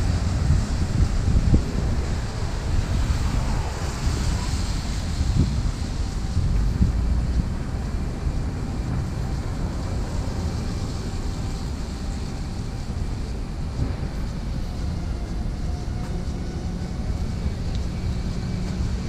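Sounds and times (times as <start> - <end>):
city street traffic rumble: 0.0 - 19.0
wind buffeting microphone: 0.0 - 19.0.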